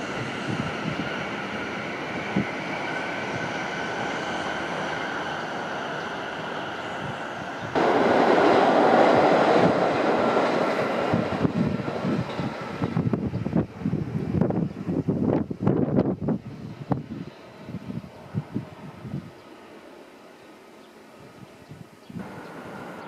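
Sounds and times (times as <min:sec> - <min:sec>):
wind gusts on microphone: 0:00.0 - 0:19.4, 0:21.2 - 0:23.0
train rushing past: 0:00.0 - 0:20.4, 0:22.2 - 0:23.0.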